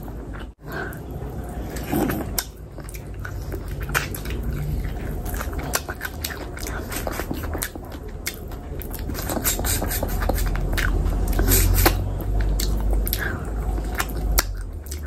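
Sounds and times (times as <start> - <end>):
wet chewing and mouth smacks: 0.2 - 15.0.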